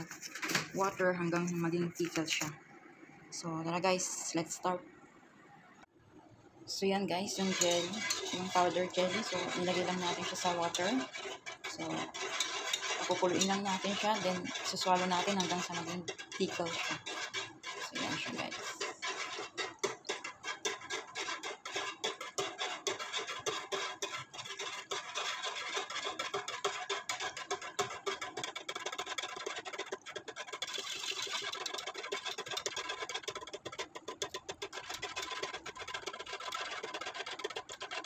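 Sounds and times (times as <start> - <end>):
wire whisk scraping a pot: 0.0 - 2.4, 6.9 - 38.0.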